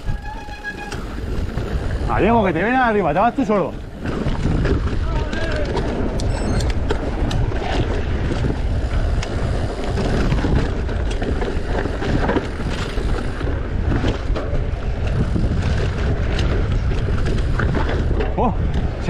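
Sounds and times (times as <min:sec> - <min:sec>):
bike clattering over stones: 0:00.0 - 0:19.0
wind rushing over microphone: 0:00.0 - 0:19.0.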